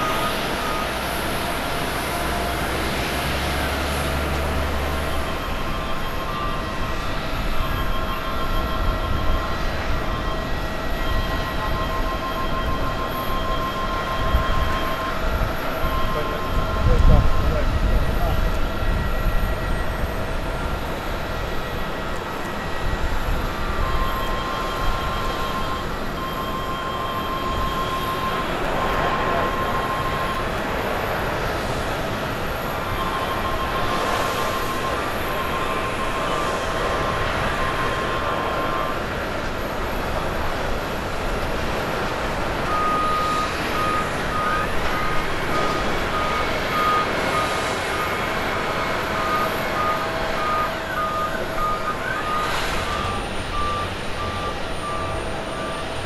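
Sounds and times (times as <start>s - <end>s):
reversing alarm beeping: 0.0s - 56.0s.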